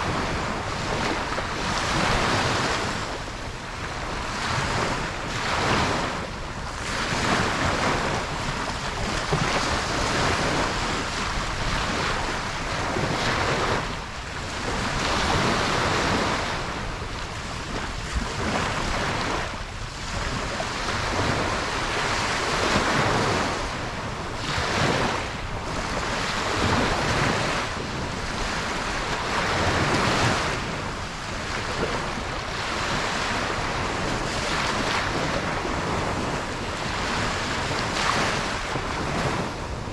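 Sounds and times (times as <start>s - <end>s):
ocean waves breaking on beach: 0.0s - 39.9s
wind on microphone: 0.0s - 39.9s.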